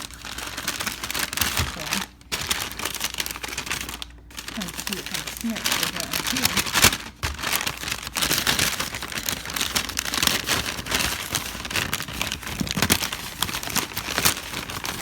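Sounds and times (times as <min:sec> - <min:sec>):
snack bag rustling: 0:00.0 - 0:15.0.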